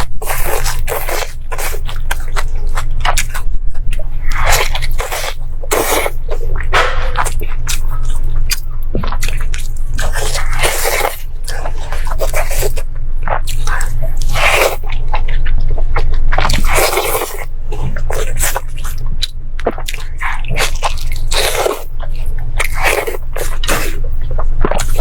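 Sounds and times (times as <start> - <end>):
crunching and chewing food: 0.0 - 25.0
low hum: 0.0 - 25.0.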